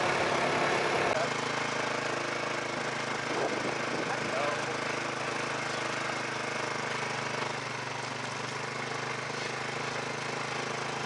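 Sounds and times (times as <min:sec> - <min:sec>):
farm vehicle engine droning: 0:00.0 - 0:11.0.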